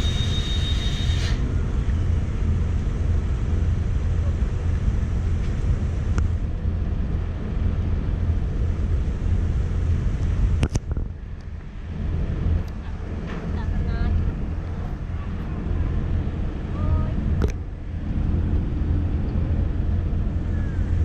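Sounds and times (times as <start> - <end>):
ferry engines rumbling: 0.0 - 21.0.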